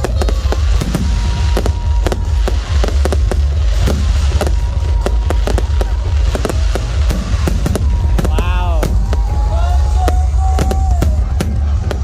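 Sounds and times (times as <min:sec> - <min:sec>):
deep rumble: 0:00.0 - 0:12.0
fireworks bangs: 0:00.0 - 0:12.0.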